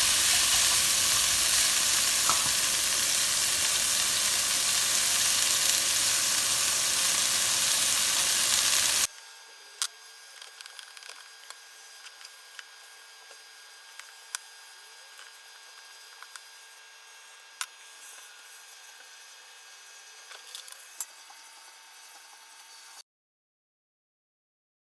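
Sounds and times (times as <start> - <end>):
food sizzling in a pan: 0.0 - 9.1, 11.3 - 23.0.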